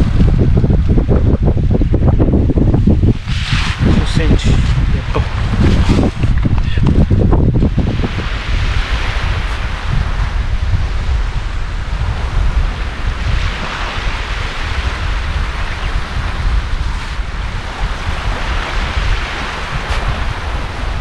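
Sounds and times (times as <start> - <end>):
small waves washing onto beach: 0.0 - 21.0
wind buffeting microphone: 0.0 - 21.0.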